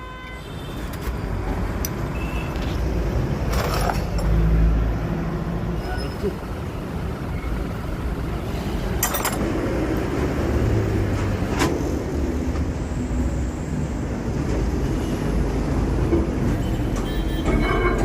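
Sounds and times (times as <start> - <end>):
vehicle engine rumbling: 0.8 - 18.0.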